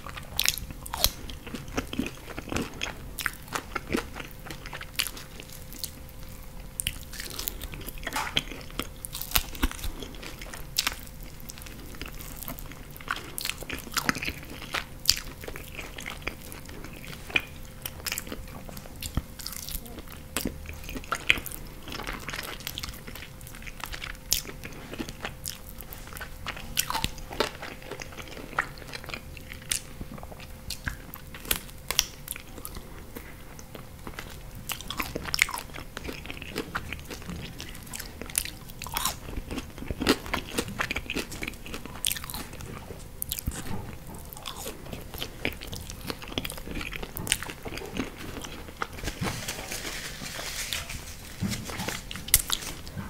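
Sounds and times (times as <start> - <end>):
chewing and biting: 0.0 - 50.0, 51.1 - 53.0.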